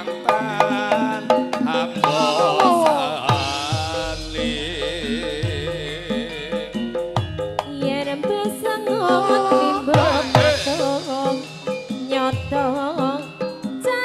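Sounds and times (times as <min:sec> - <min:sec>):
gamelan music: 0:00.0 - 0:14.0
struck metallophones: 0:00.0 - 0:14.0.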